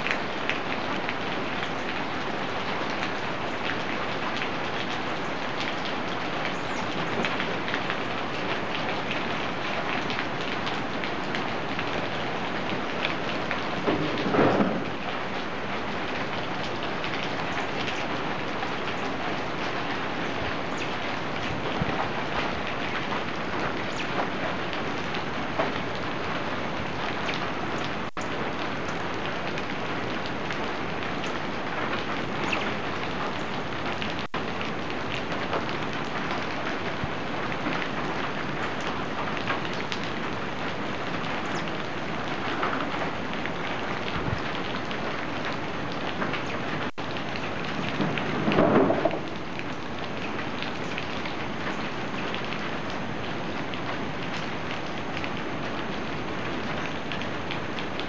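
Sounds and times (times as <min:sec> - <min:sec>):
rain on a metal roof: 0:00.0 - 0:58.0
rain on foliage: 0:00.0 - 0:58.0.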